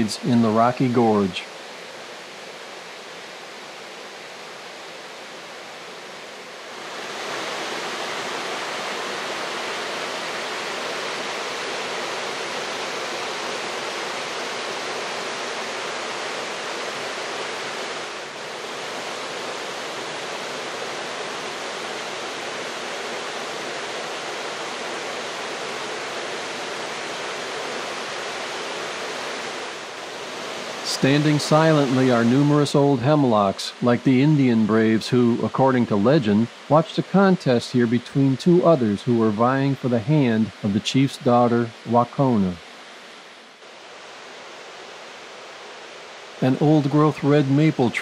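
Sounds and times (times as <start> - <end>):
mountain stream rushing: 0.0 - 48.0.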